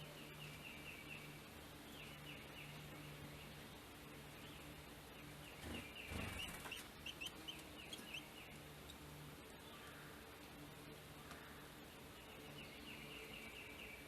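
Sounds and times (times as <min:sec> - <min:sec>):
bird chirping: 0:00.0 - 0:10.1, 0:11.3 - 0:14.0
faint steady hum: 0:00.0 - 0:14.0.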